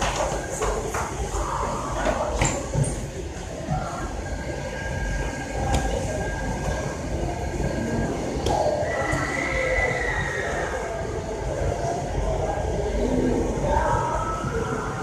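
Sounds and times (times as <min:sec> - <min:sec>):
murmur of distant voices: 0:00.0 - 0:15.0.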